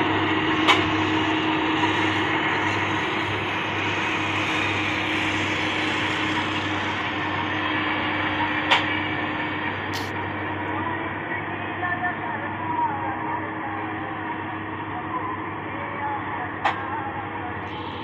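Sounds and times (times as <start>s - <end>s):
highway traffic drone: 0.0s - 18.0s.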